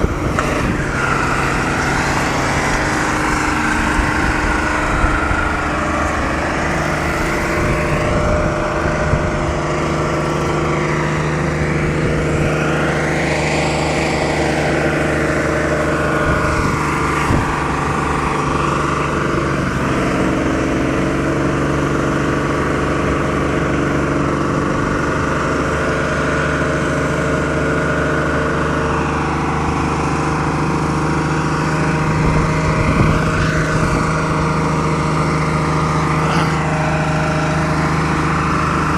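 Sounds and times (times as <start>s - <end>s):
diesel truck engine racing: 0.0s - 38.9s.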